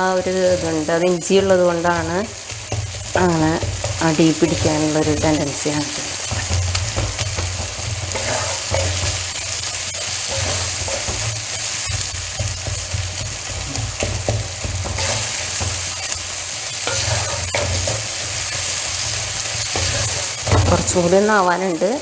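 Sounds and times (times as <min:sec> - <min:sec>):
spoon stirring and scraping pan: 0:00.0 - 0:22.0
vegetables sizzling in oil: 0:00.0 - 0:22.0.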